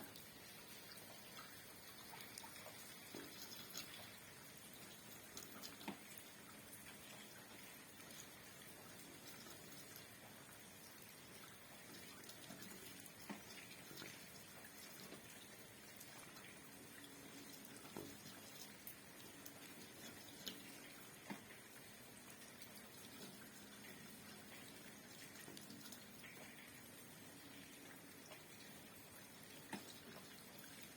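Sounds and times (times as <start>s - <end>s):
light rain hiss: 0.0s - 30.9s.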